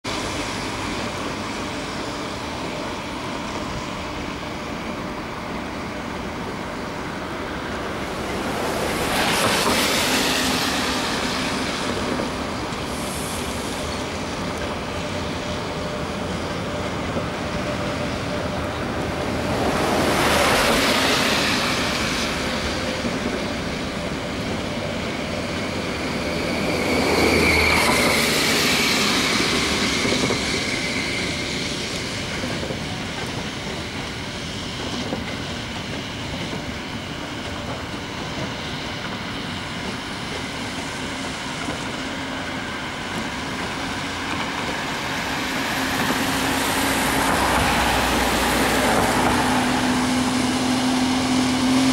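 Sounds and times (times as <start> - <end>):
train wheels rumbling on rails: 0.1 - 51.9.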